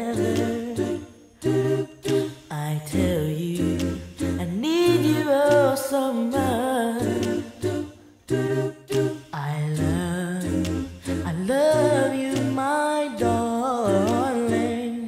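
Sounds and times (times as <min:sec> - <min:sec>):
male vocal group singing a cappella: 0:00.0 - 0:15.0.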